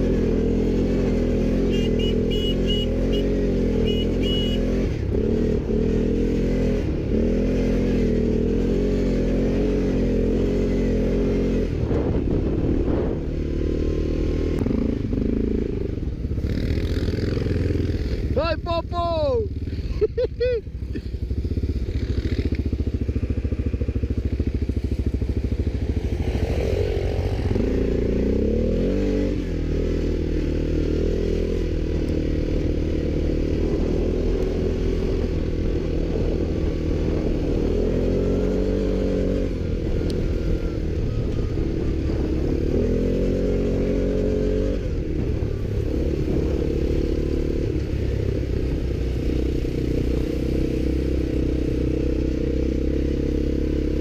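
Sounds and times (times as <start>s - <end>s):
atv engine revving: 0.0s - 18.4s, 19.3s - 54.0s.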